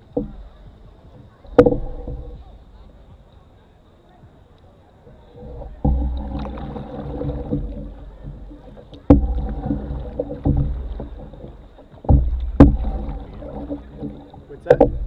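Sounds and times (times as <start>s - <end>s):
canoe paddle strokes knocking: 0.0s - 15.0s.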